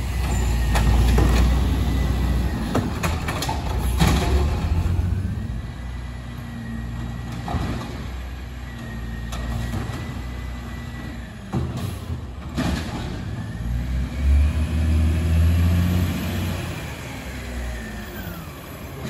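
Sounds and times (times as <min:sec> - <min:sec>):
garbage truck engine running: 0:00.0 - 0:19.0.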